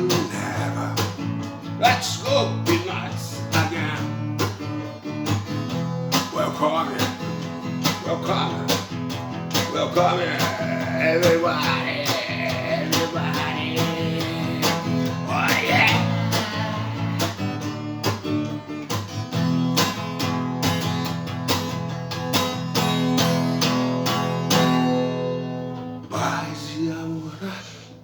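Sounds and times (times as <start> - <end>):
guitar strumming: 0.0 - 26.0.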